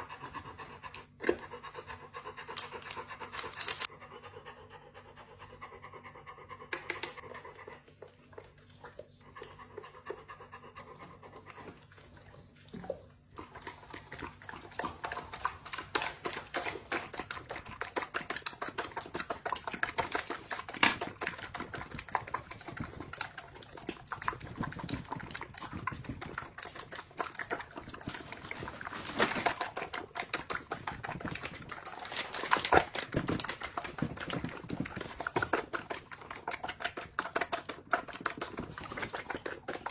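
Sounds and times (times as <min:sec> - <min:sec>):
dog panting: 0:00.0 - 0:39.9.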